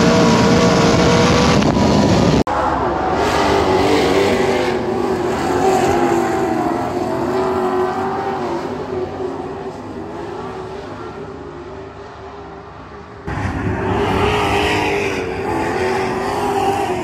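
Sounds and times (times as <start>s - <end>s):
race cars passing: 0.0s - 17.0s.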